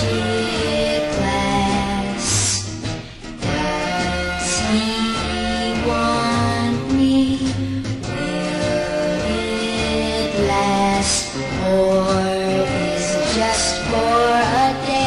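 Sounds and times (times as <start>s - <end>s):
pop song with singer and guitar: 0.0s - 15.0s.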